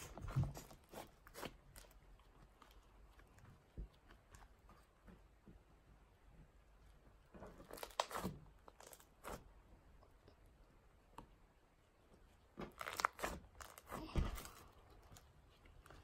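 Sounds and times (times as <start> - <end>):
hands squishing slime: 0.0 - 5.4, 7.4 - 11.4, 12.2 - 16.0.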